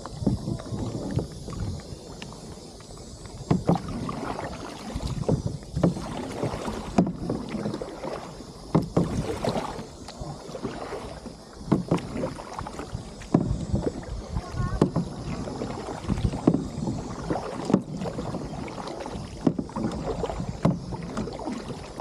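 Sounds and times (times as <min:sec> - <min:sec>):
paddle knocks: 0:00.0 - 0:22.0
paddle splashing in water: 0:00.0 - 0:22.0.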